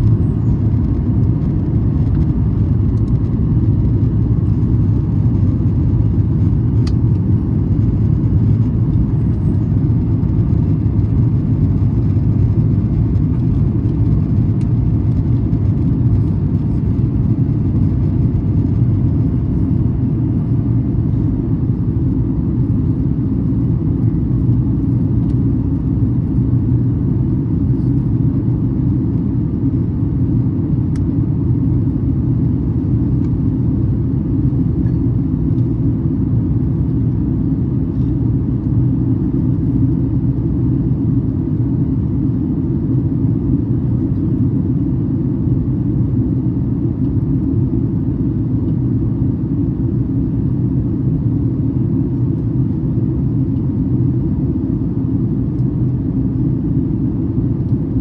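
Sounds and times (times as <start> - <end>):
airflow over fuselage: 0.0 - 58.0
airplane cabin engine drone: 0.0 - 58.0.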